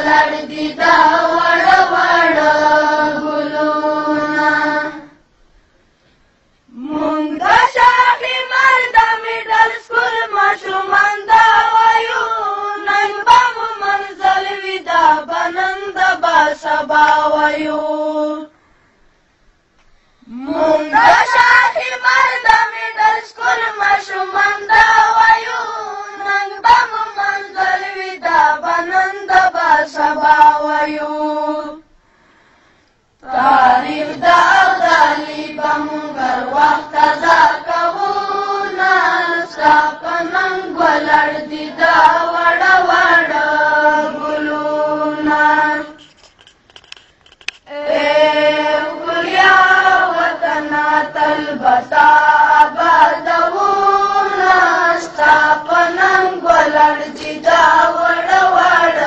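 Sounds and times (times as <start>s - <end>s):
group singing in unison: 0.0s - 5.3s, 6.7s - 18.5s, 20.2s - 31.9s, 33.2s - 46.0s, 47.7s - 59.0s.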